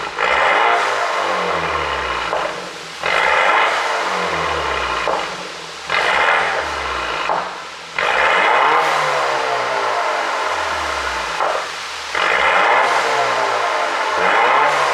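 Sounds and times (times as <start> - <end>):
car engine revving: 0.0 - 14.9
exhaust pops crackling: 0.0 - 14.9.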